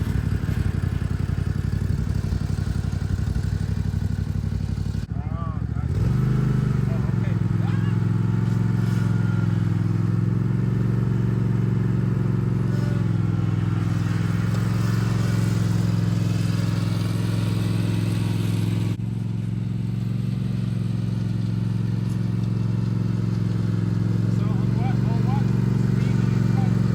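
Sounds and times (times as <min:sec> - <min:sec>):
lawn mower engine running: 0:00.0 - 0:26.9.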